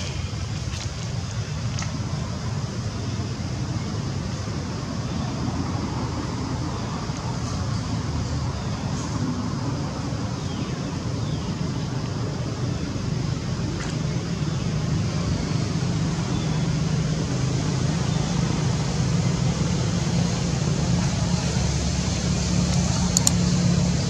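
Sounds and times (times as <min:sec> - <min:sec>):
low engine hum and rumble: 0:00.0 - 0:24.0.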